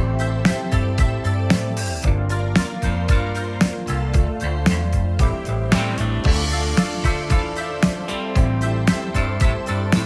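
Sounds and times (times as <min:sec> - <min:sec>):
bass line: 0:00.0 - 0:10.0
steady drum beat: 0:00.0 - 0:10.0.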